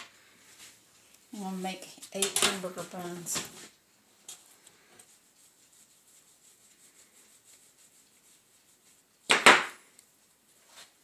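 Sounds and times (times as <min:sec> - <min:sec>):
hands rubbing dough: 0:00.0 - 0:11.0.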